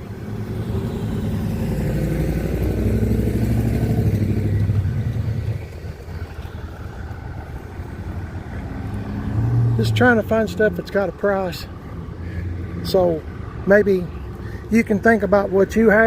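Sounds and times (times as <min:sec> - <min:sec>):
vehicle engine rumbling past: 0:00.0 - 0:16.0.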